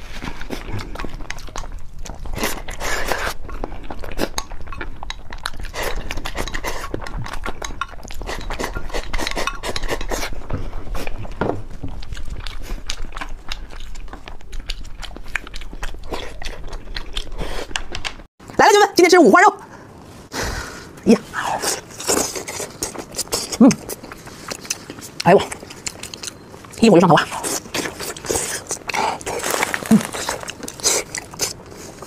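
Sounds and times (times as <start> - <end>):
chewing: 0.0 - 18.3, 21.3 - 32.0.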